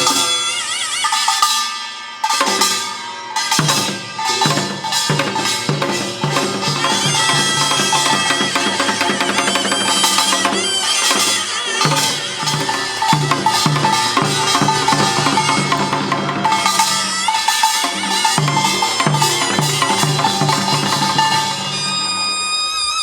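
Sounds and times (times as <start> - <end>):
drums beating: 0.0 - 23.0
shrill double-reed melody: 0.0 - 23.0
small gongs ringing: 0.0 - 23.0.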